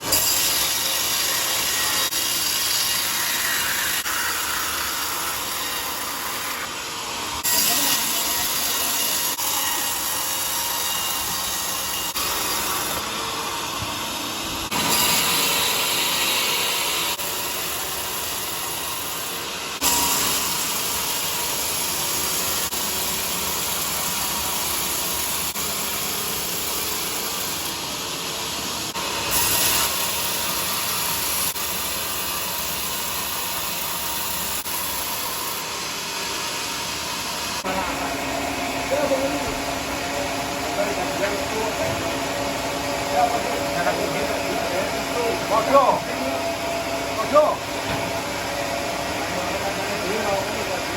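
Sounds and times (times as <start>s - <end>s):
power saw cutting wood: 0.0s - 50.9s.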